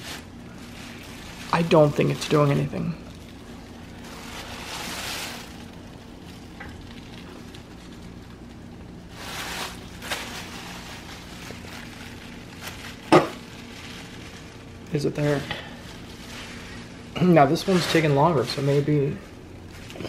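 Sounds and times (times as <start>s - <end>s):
faint steady hum: 0.0s - 20.0s
plastic bag crinkling: 0.0s - 20.0s.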